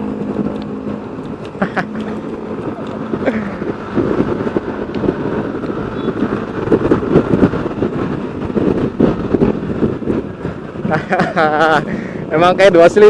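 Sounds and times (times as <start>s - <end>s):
motorcycle engine with pulsing exhaust: 0.0s - 13.0s.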